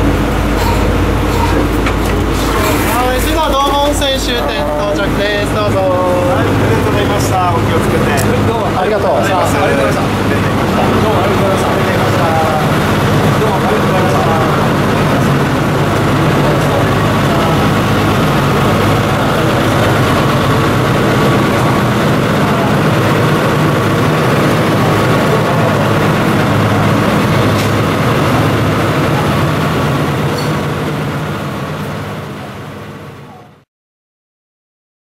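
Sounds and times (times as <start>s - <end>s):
diesel engine idling: 0.0s - 33.5s.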